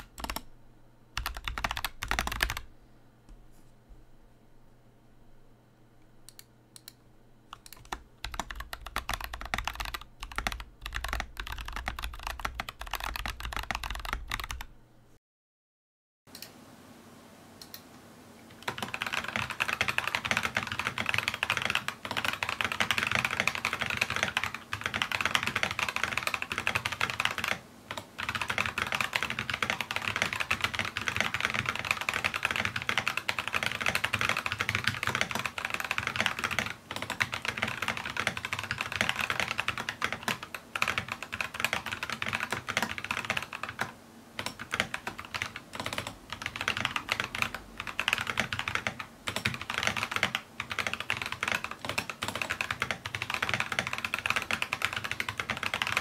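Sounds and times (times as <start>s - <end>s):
mechanical keyboard typing: 0.0s - 0.5s, 1.2s - 2.7s, 6.3s - 14.7s, 18.6s - 56.0s.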